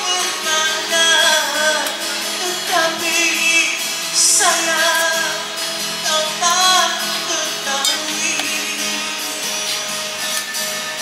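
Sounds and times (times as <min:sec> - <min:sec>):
woman singing song: 0:00.0 - 0:09.3.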